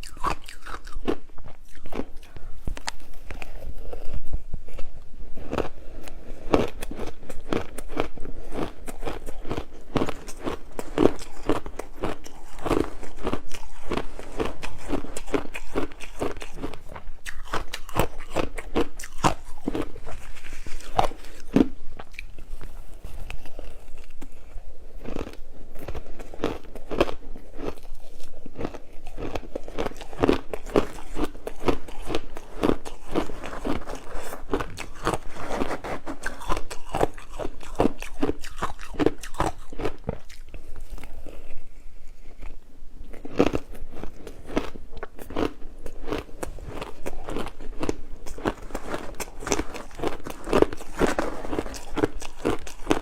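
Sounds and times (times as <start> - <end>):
person chewing crunchy ice: 0.0 - 53.0.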